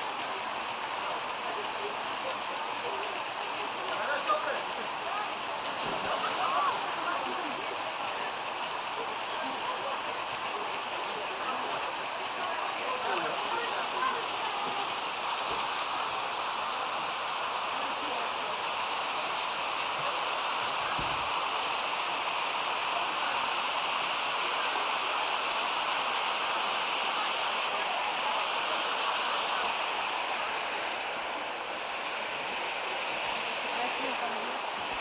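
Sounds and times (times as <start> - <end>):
creek water rushing over rapids: 0.0 - 35.0.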